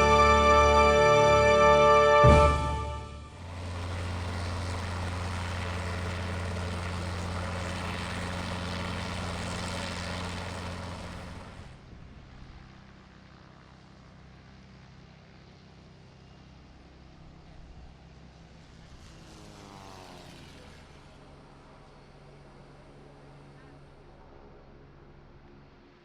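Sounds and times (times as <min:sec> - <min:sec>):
helicopter engine and rotor: 0:02.3 - 0:16.4, 0:19.3 - 0:26.0.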